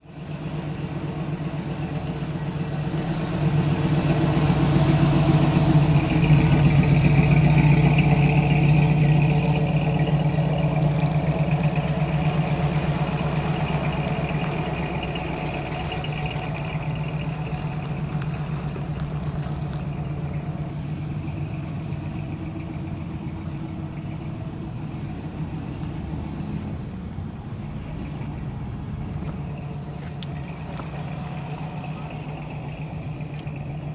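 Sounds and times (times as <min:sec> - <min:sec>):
car engine passing by: 0:00.0 - 0:33.9.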